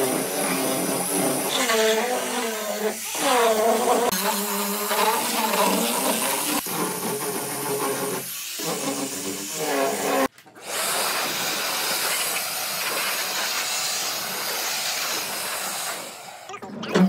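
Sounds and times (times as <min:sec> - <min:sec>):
power tool hissing: 0:00.0 - 0:16.5.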